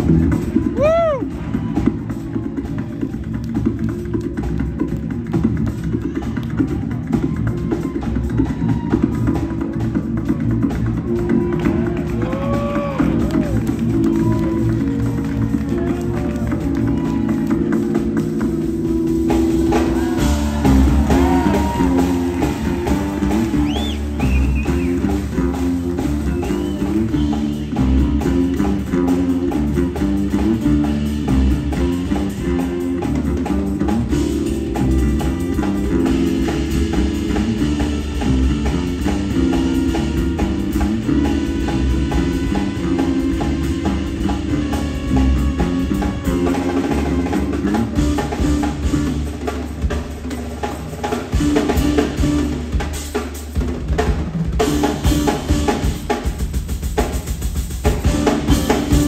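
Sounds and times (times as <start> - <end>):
drum kit: 0.0 - 59.0.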